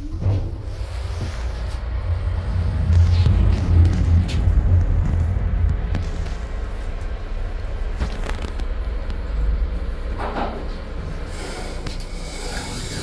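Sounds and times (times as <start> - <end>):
elevator car rumbling: 0.0 - 13.0.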